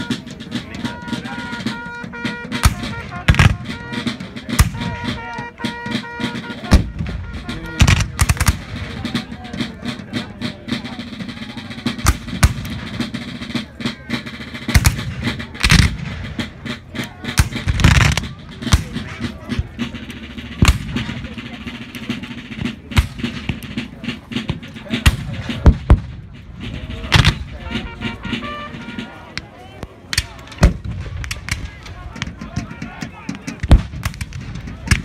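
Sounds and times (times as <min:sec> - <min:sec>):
fife and drum marching tune: 0:00.0 - 0:35.0.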